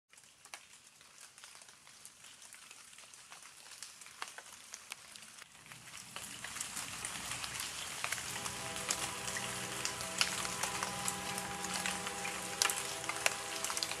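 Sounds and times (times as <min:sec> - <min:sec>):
rain falling: 0:00.1 - 0:14.0.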